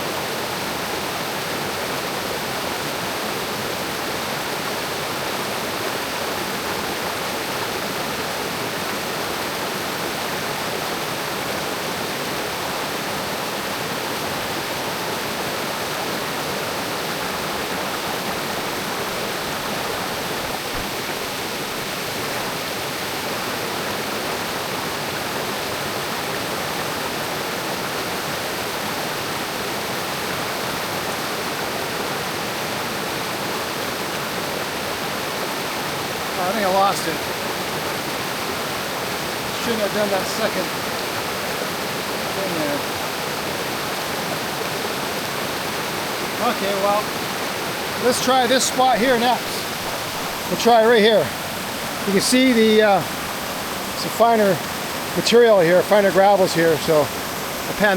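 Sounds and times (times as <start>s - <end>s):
creek rushing: 0.0s - 57.9s.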